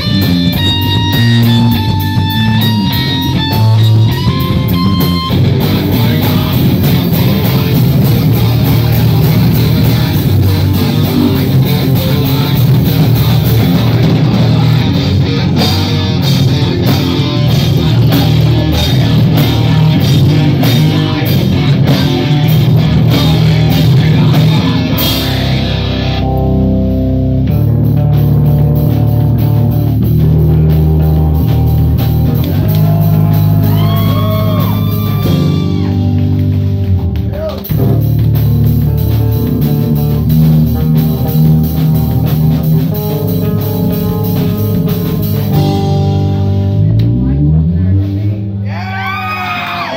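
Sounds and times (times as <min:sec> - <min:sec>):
electric guitars ringing: 0:00.0 - 0:48.2
heavy metal band playing: 0:00.0 - 0:49.9.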